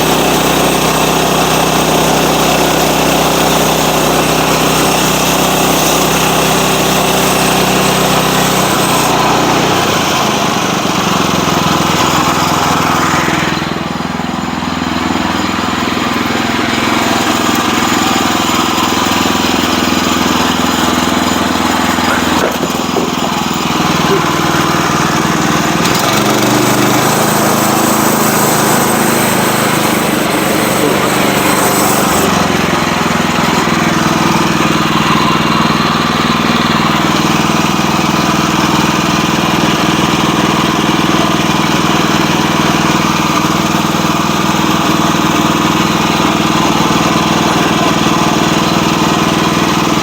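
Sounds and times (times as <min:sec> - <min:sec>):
sawmill engine running: 0:00.0 - 0:50.0.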